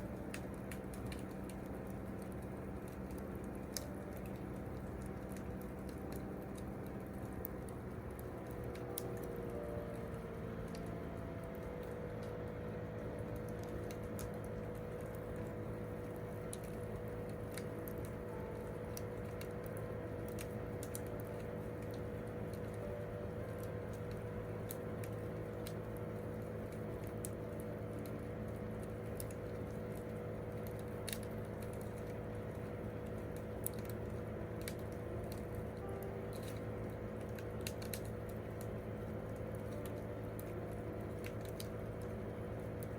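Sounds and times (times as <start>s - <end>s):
campfire crackling and popping: 0.0s - 42.9s
steady low hum: 0.0s - 42.9s.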